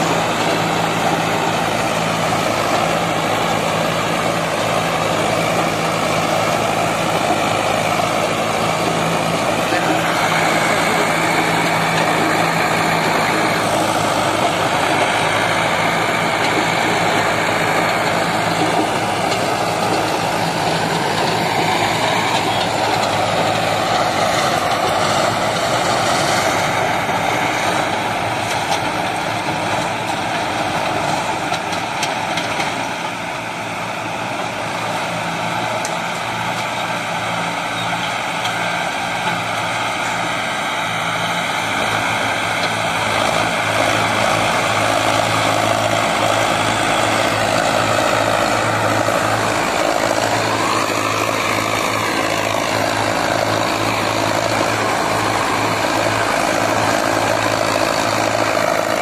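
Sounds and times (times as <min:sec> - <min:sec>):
rotor churning dry soil: 0:00.0 - 0:59.0
tractor diesel engine under load: 0:00.0 - 0:59.0.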